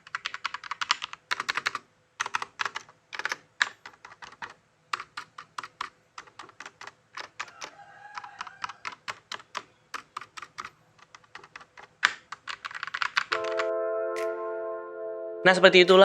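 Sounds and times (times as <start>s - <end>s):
typing on mechanical keyboard: 0.0s - 13.7s.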